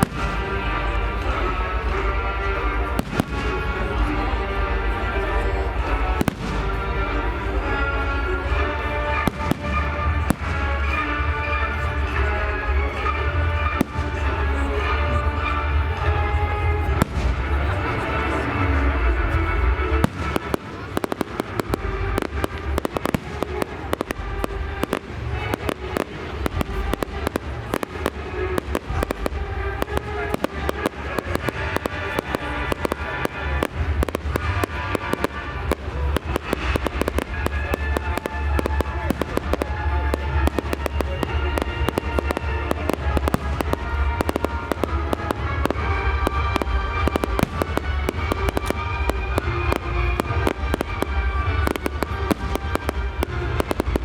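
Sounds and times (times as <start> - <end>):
film music in background: 0.0 - 54.0
fireworks bangs and crackles: 0.0 - 54.0.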